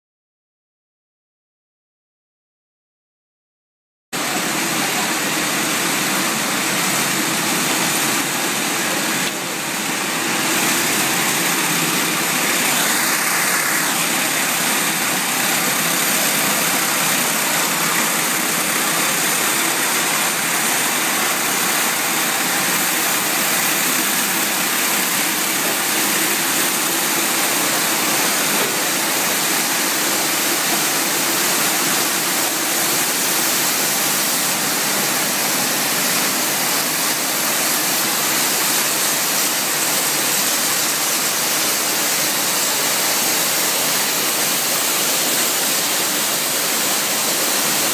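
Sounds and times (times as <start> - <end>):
sanding machine whirring: 4.4 - 47.9.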